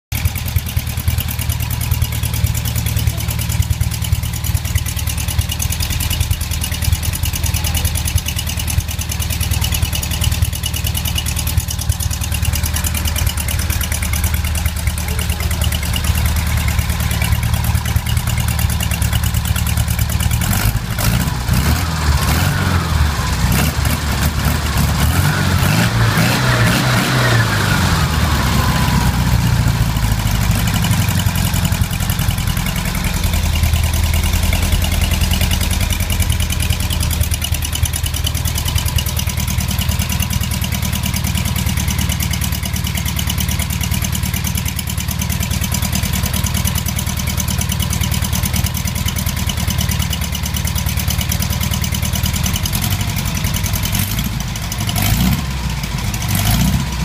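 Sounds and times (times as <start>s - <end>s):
car engine idling: 0.1s - 57.0s.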